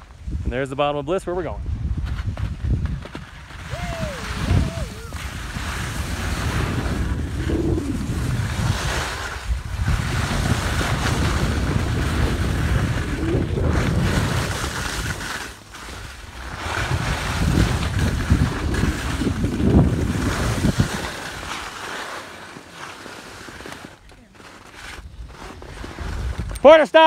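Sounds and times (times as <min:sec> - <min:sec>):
wind rushing over microphone: 0:00.0 - 0:15.5, 0:16.2 - 0:21.6, 0:25.0 - 0:27.0
skis scraping over snow: 0:00.3 - 0:27.0.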